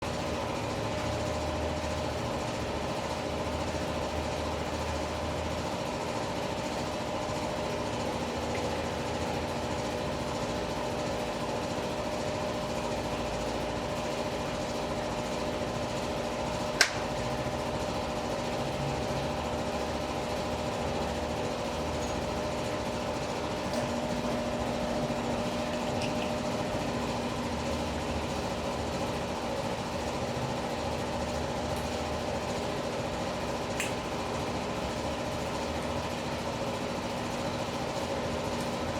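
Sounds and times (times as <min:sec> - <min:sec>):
steady mechanical hum: 0:00.0 - 0:38.9.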